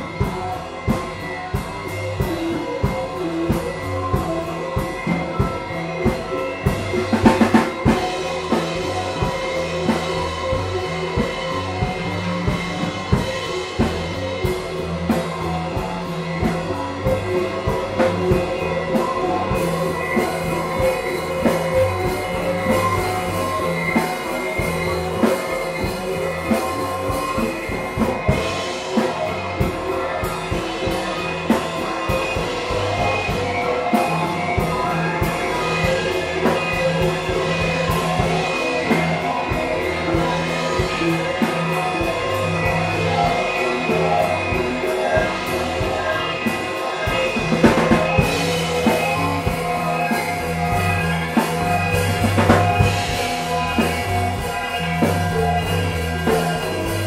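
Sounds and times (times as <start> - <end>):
band playing space rock jam: 0.0 - 57.0.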